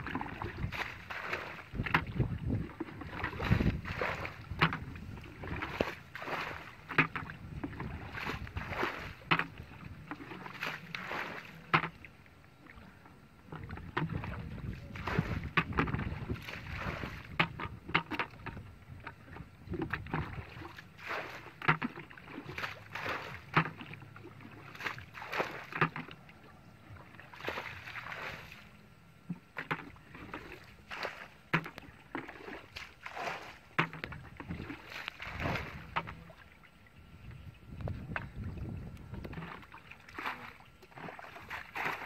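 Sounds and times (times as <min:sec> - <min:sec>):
splashing in muddy water: 0:00.0 - 0:42.0.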